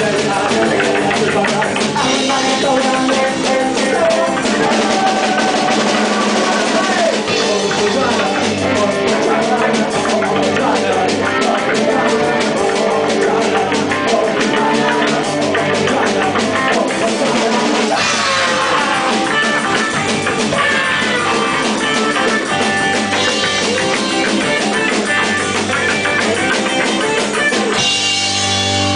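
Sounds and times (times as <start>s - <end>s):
live rock band playing: 0.0s - 28.9s.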